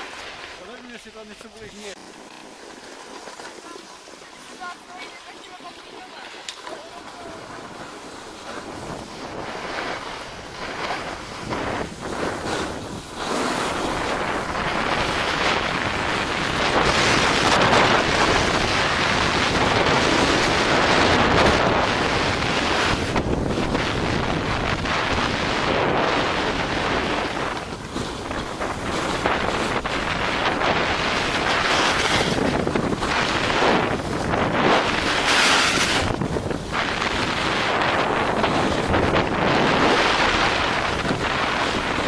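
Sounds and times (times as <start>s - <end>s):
skis hissing on snow: 0.0s - 42.0s
wind rushing over microphone: 5.6s - 42.0s.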